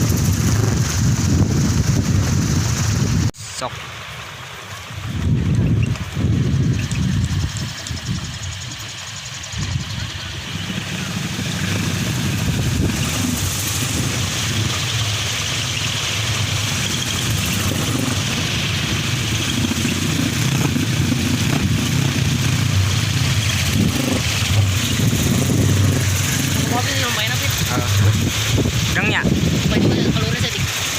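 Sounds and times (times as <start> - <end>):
rushing wind: 0.0 - 30.9
wind propeller humming: 0.0 - 30.9.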